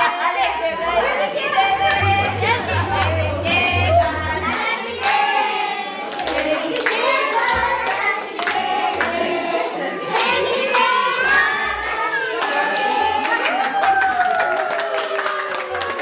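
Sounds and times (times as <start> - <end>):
group of people singing: 0.0 - 13.5.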